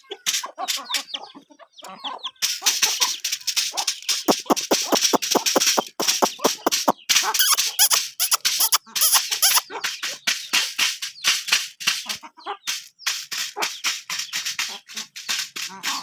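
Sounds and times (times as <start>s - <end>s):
chickens squawking and clucking: 0.0s - 11.3s, 12.0s - 16.0s.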